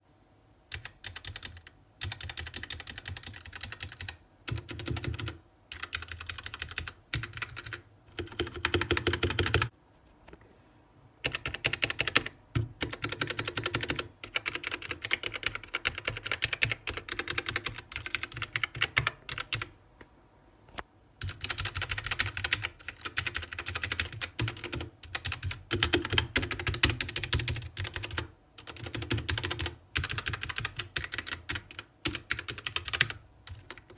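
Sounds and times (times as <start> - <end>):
mechanical keyboard typing: 0.7 - 9.7, 11.2 - 19.7, 21.2 - 33.9.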